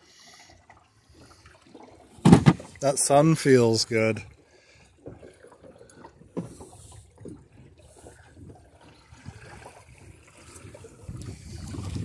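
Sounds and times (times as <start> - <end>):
water lapping along hull: 0.0 - 12.0.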